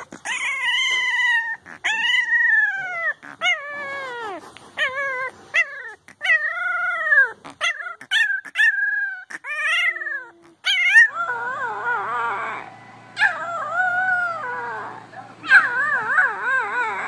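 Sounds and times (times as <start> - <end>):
puppy howling: 0.0 - 17.0.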